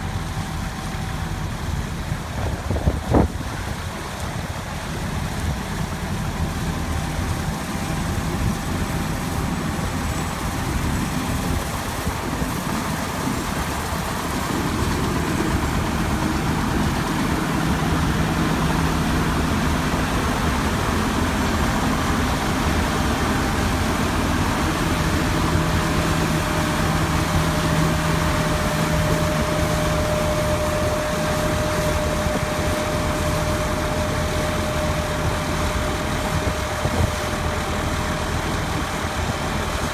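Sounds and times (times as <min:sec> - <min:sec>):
diesel engine drone: 0:00.0 - 0:39.9
steady high whine: 0:00.0 - 0:39.9.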